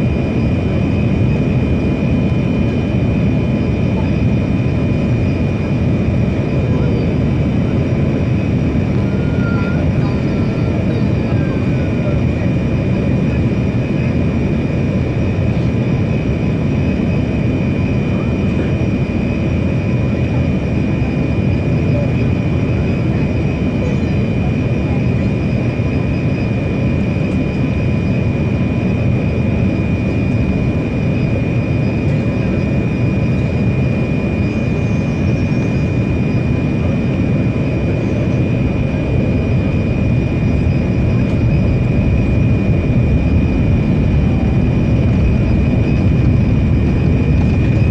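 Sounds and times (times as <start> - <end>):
jet engines and airflow rush: 0.0 - 47.9
thin steady whine: 0.0 - 47.9.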